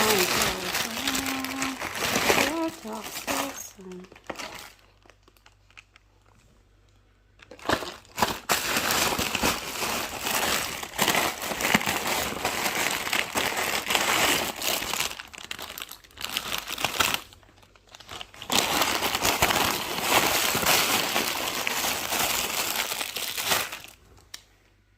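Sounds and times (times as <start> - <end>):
packaging crinkling: 0.0 - 6.5, 7.3 - 24.4.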